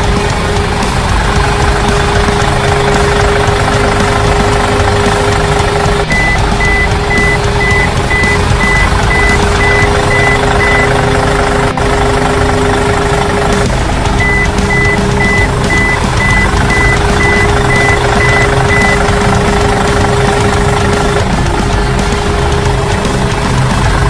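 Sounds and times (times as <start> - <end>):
truck engine running: 0.0 - 24.0
reversing alarm beeping: 1.6 - 12.1, 13.0 - 23.1.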